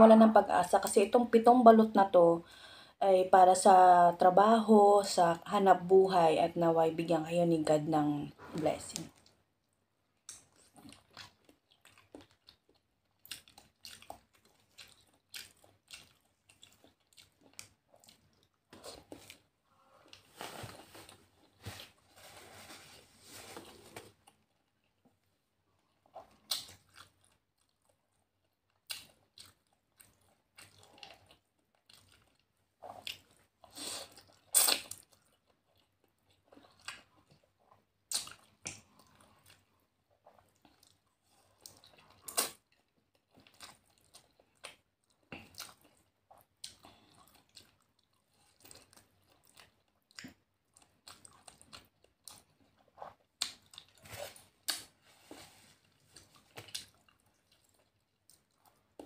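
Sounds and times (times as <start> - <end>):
person chewing noodles: 9.0 - 59.0.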